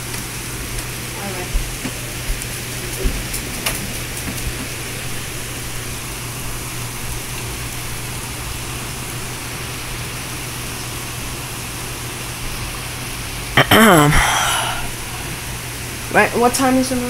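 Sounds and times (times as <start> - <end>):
heavy rain on leafy trees: 0.0 - 17.0.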